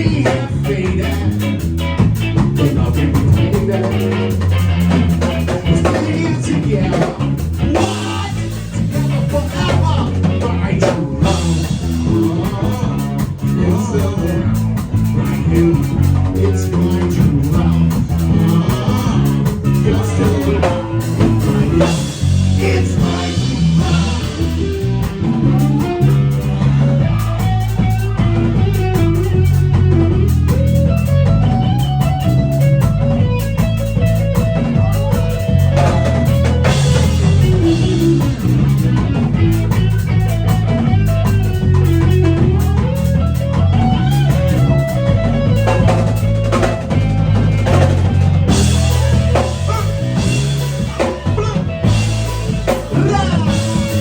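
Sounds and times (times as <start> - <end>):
band playing a love song: 0.0 - 54.0
deep bass line: 0.0 - 54.0.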